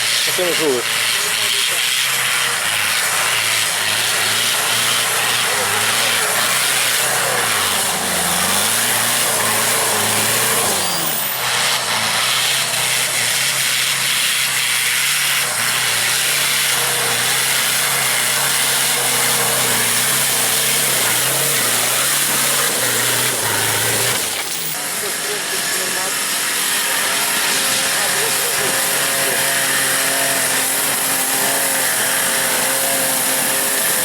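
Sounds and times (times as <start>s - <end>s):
off-road engine revving hard: 0.0s - 34.0s.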